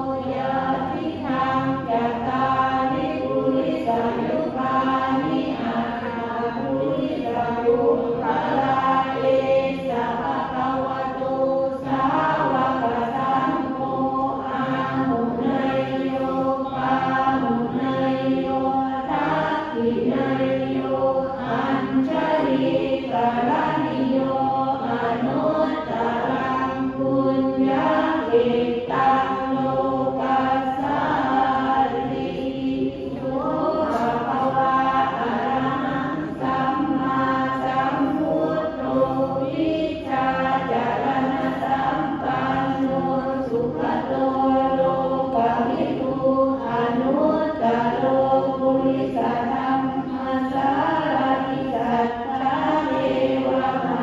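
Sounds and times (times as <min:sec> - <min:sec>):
group chanting prayers: 0:00.0 - 0:54.0.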